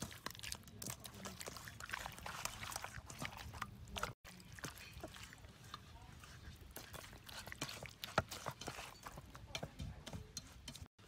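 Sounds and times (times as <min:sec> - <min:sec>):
wet squelching of hands kneading meat: 0:00.0 - 0:11.0.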